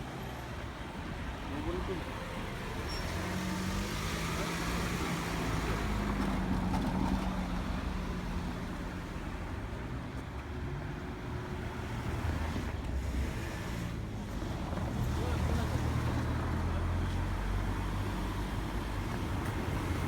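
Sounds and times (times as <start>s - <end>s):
moving vehicle rumble: 0.0s - 20.0s.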